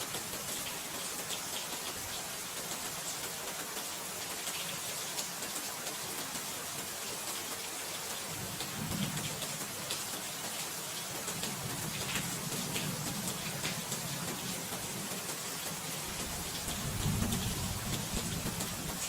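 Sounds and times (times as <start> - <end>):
rain drops ticking on a surface: 0.0 - 19.0.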